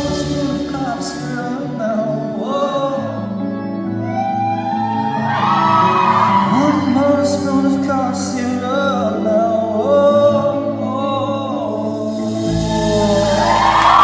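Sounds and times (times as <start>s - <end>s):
man singing: 0.0s - 4.2s, 6.3s - 14.0s
instrumental accompaniment: 0.0s - 14.0s.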